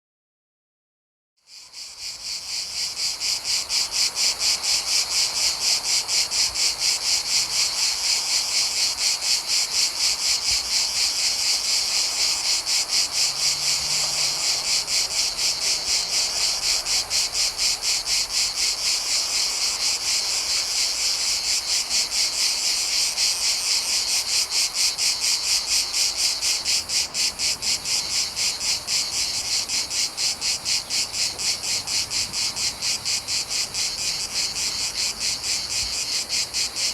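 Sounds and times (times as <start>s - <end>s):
cicadas buzzing: 1.5s - 36.9s.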